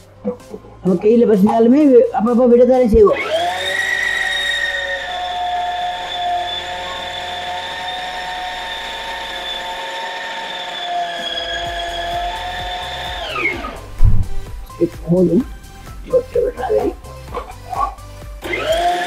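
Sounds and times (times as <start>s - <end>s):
mixer grinder motor whining: 3.0s - 19.0s.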